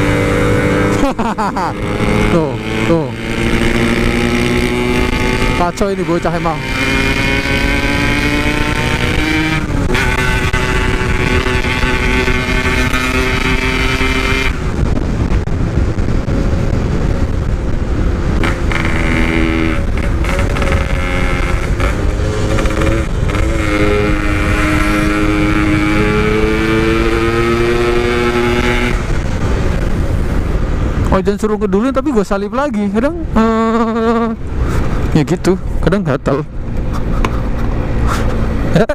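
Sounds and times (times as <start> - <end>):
low wind rumble: 0.0 - 38.9
motorcycle engine accelerating: 0.0 - 38.9.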